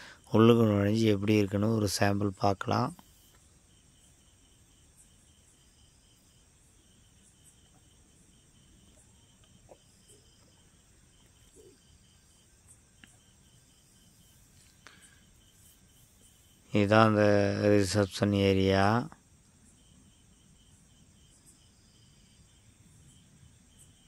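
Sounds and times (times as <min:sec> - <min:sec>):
faint insect chirping: 0:00.0 - 0:24.0.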